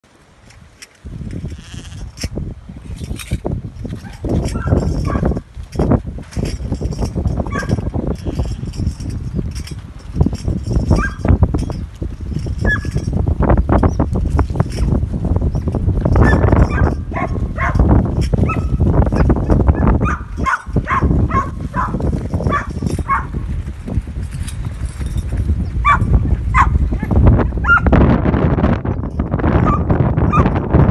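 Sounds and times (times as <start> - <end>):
rumble of many hooves: 0.0 - 30.9.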